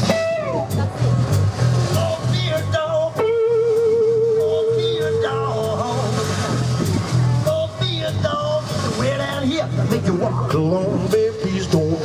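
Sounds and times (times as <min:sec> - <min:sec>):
rockabilly band playing: 0:00.0 - 0:12.0.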